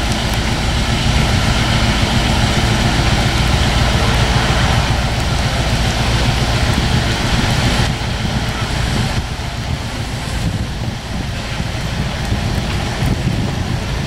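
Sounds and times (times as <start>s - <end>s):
distant passing train: 0.0s - 14.0s
rain hiss: 0.0s - 14.0s
wind buffeting microphone: 0.0s - 14.0s.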